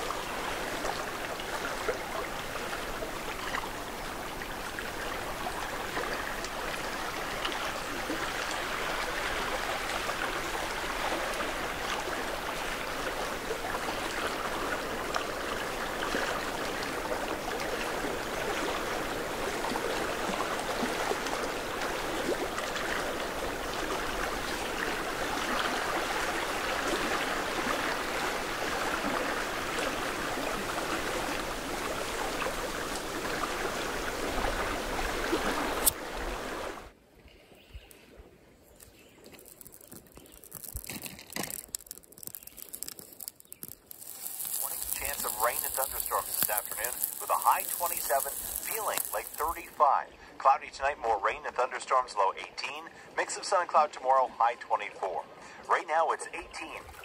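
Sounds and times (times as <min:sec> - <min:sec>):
small waves lapping on rocks: 0:00.0 - 0:36.9, 0:38.7 - 0:50.4.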